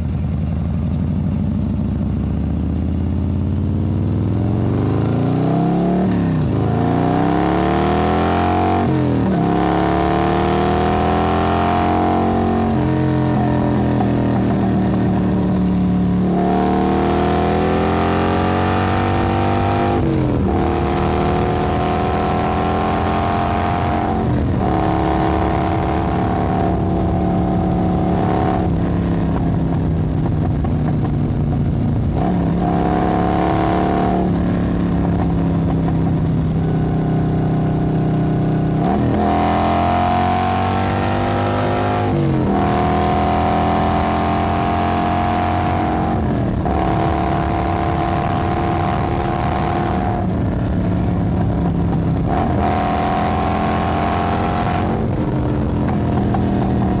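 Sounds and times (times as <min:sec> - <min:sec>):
motorcycle engine shifting gears: 0:00.0 - 0:57.0.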